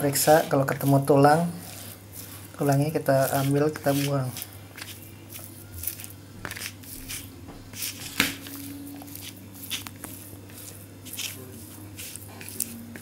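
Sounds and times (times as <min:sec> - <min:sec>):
hand squishing rice: 0:00.0 - 0:13.0.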